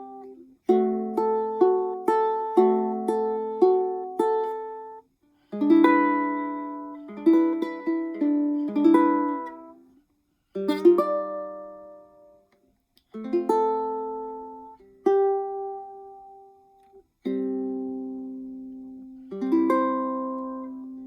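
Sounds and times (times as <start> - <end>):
fingerstyle ukulele: 0.0 - 21.0.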